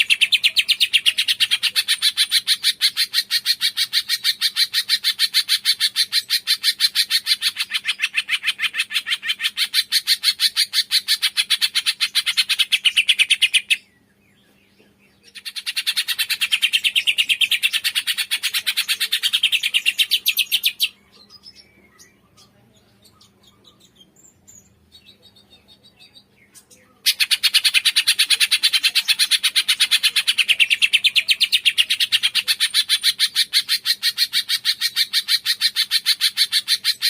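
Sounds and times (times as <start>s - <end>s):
songbird sharp repeated chirps: 0.0s - 37.0s.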